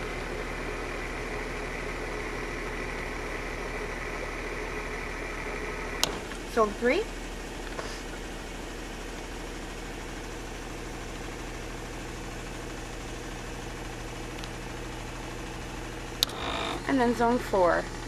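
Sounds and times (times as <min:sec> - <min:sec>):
pump humming: 0:00.0 - 0:17.3.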